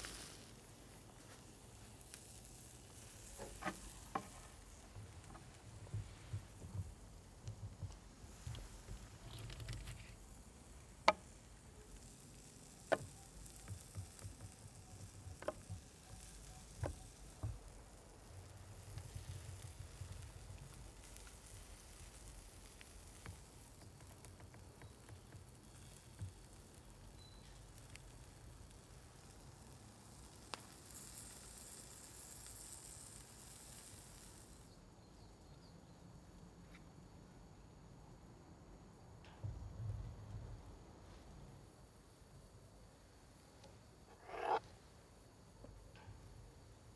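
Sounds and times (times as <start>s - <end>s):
faint ambient hiss: 0.0s - 46.9s
soft high hiss: 0.0s - 46.9s.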